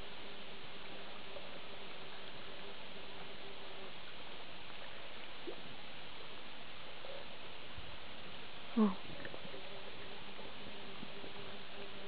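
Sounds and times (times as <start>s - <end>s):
faint steady hum: 0.0s - 12.0s
steady background hiss: 0.0s - 12.0s.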